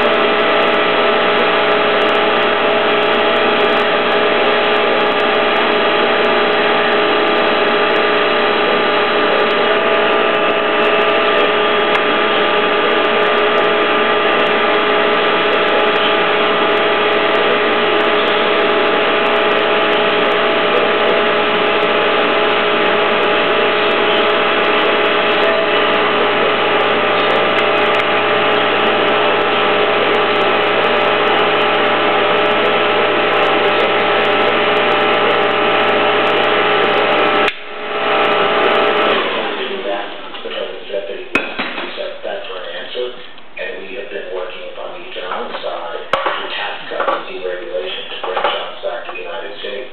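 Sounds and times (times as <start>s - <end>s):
pipe bender motor hum: 0.0s - 49.9s.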